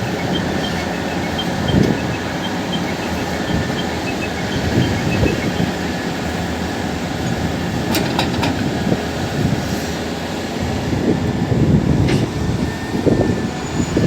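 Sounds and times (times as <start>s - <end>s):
heavy diesel machinery rumbling: 0.0s - 14.0s.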